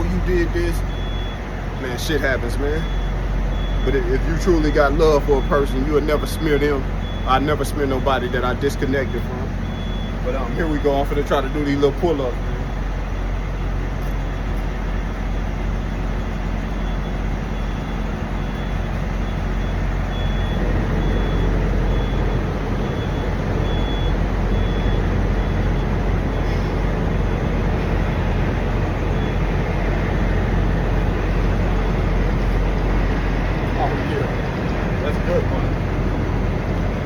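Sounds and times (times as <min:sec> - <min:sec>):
diesel truck engine idling: 0:00.0 - 0:37.0.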